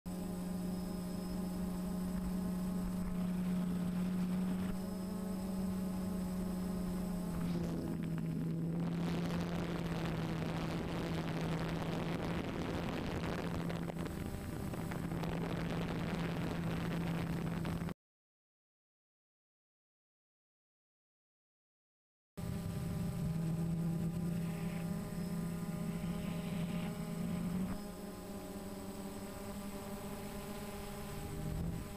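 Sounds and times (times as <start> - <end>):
electric motors and propellers humming: 0.1 - 18.0, 22.4 - 31.9.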